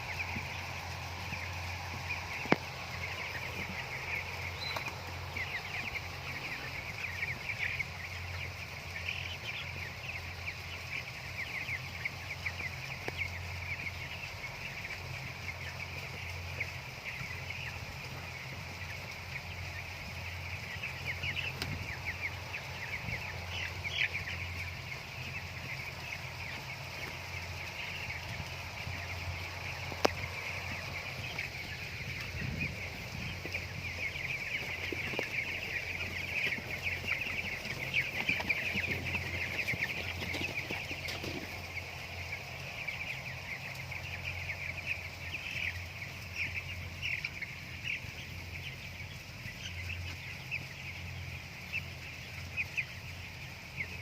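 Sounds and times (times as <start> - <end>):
chickens peeping: 0.0 - 54.0
steady low hum: 0.0 - 54.0.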